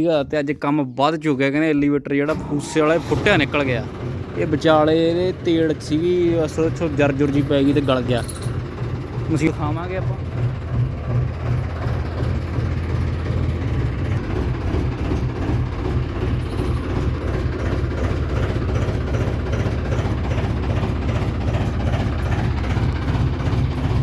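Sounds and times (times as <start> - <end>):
diesel engine droning: 2.2 - 24.0.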